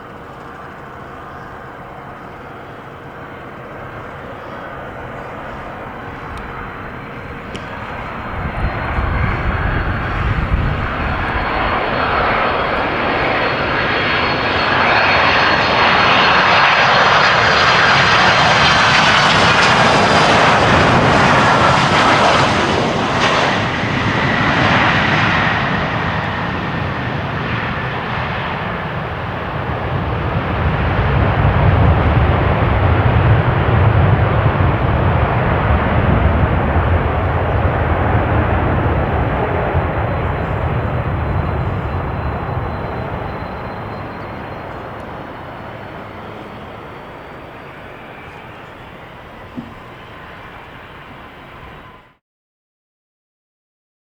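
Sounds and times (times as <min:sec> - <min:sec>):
jet engines roaring with whine: 0:00.0 - 0:52.2
low rumble of jet rolling out: 0:00.0 - 0:52.2.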